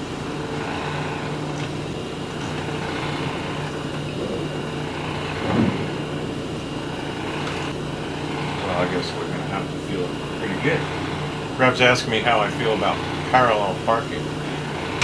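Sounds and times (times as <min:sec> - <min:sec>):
boat engines droning: 0:00.0 - 0:15.0
whirring propeller motor: 0:00.0 - 0:15.0.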